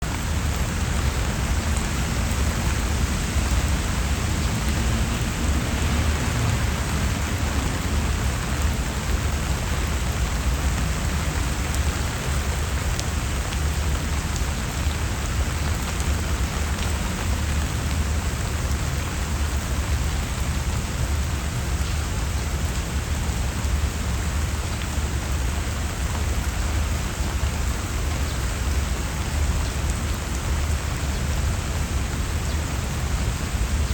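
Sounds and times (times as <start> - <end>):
rain on leaves and paving: 0.0 - 33.9.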